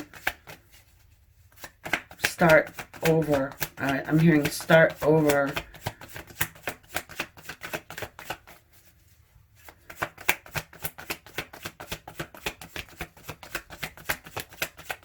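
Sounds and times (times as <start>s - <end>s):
cards being shuffled: 0.0s - 9.0s, 9.6s - 15.0s.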